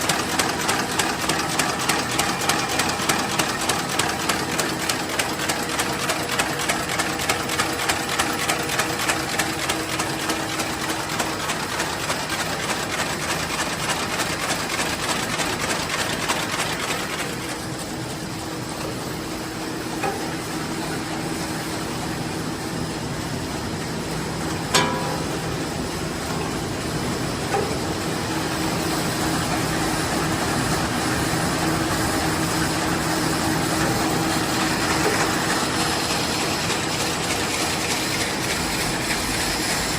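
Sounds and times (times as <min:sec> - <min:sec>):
machine clattering and knocking: 0:00.0 - 0:19.1, 0:24.4 - 0:39.9.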